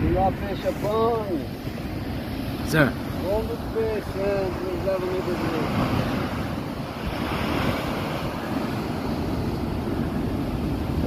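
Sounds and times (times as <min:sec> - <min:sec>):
surf breaking on rocks: 0:00.0 - 0:11.0
wind buffeting microphone: 0:00.0 - 0:11.0.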